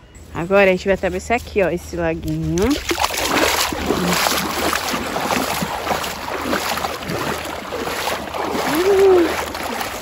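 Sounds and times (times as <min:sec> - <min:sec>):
water sloshing from wading: 0:00.5 - 0:10.0.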